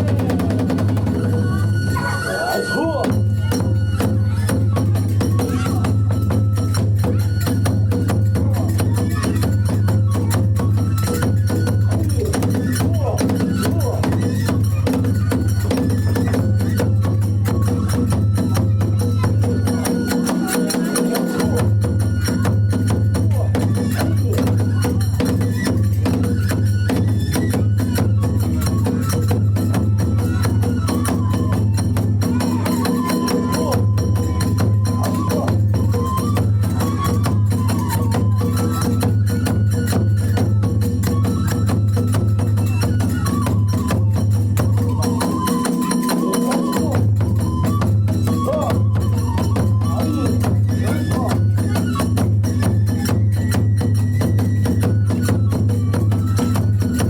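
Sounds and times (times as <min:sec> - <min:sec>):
drums beating: 0:00.0 - 0:02.2, 0:02.8 - 0:57.0
bamboo flute melody: 0:00.0 - 0:57.0
small hand cymbals: 0:00.0 - 0:57.0.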